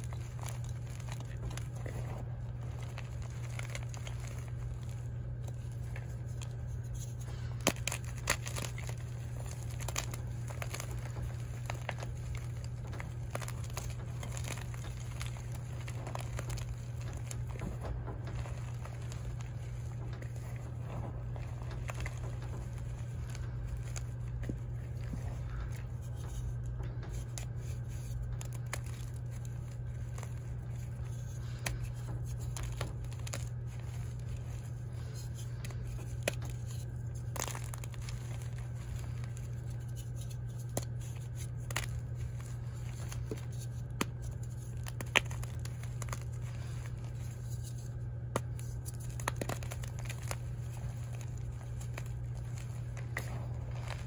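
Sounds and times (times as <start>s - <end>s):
chalk chunks snapping: 0.0s - 54.0s
chalk crunching by hand: 0.0s - 54.0s
steady low hum: 0.0s - 54.0s.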